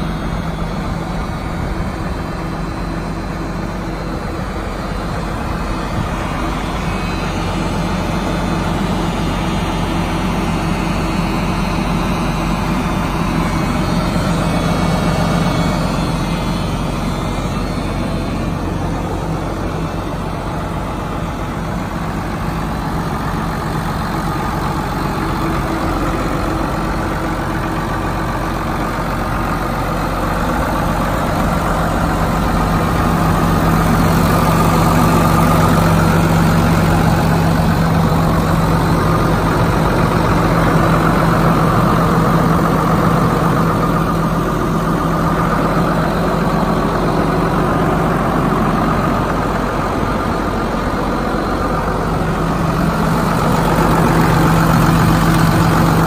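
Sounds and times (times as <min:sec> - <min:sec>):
tractor diesel engine idling: 0:00.0 - 0:56.0.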